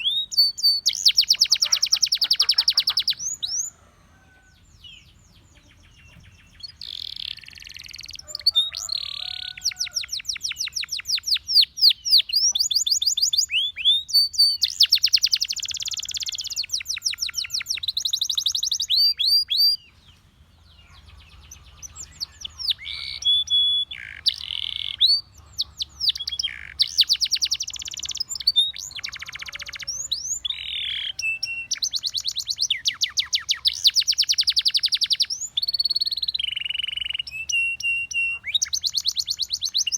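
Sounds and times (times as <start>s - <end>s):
canary singing trills: 0.0s - 3.8s, 4.4s - 39.9s.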